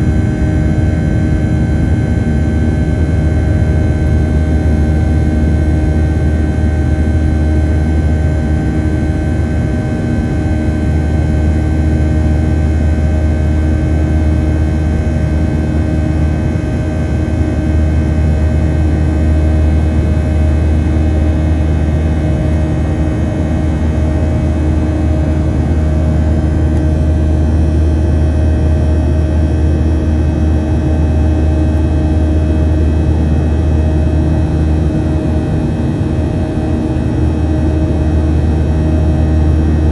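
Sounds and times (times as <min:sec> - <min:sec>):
jet engine drone with whining tones: 0:00.0 - 0:39.9.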